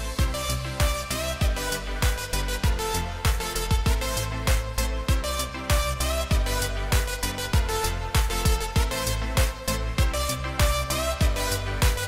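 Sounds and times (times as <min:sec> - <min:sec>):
kick drum beat: 0:00.0 - 0:12.0.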